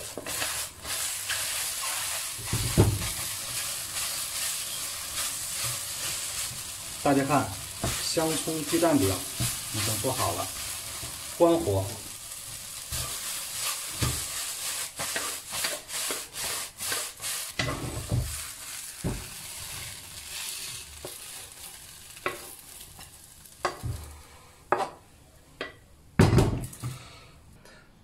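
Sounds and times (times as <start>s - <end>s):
spatula scraping wok: 0.0s - 23.8s
oil sizzling: 0.0s - 24.5s.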